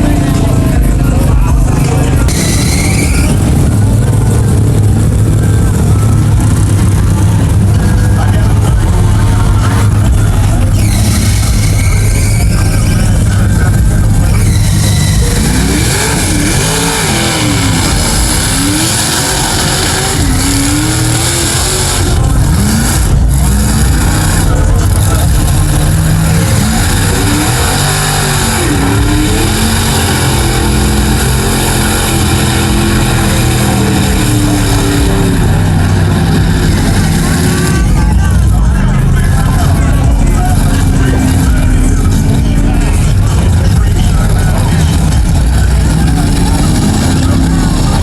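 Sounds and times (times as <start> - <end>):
truck engine revving: 0.0 - 48.0.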